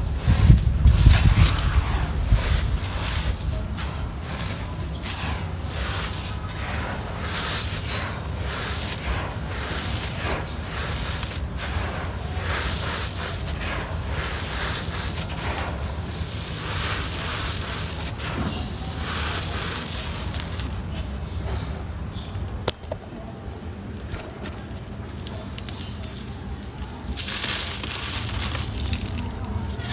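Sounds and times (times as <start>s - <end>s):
sand and stones pouring onto floor: 0.0s - 22.5s, 24.4s - 29.9s.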